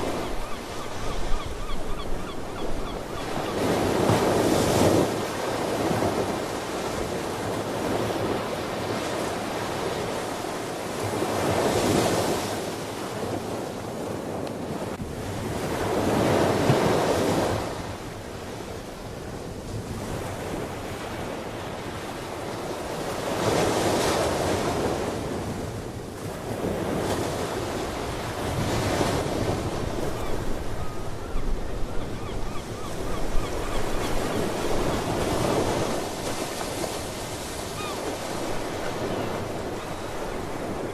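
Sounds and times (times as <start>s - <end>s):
waves breaking on a shore: 0.0s - 40.9s.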